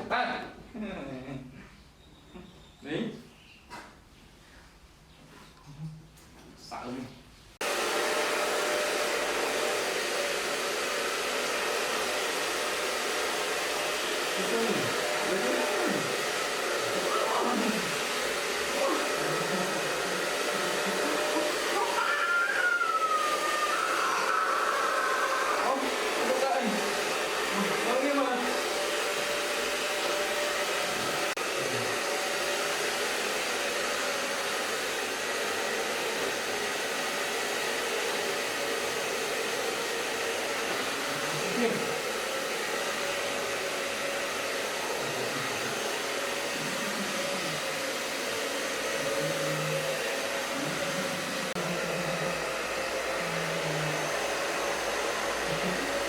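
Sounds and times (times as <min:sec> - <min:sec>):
hair dryer blowing: 0:07.6 - 0:56.0.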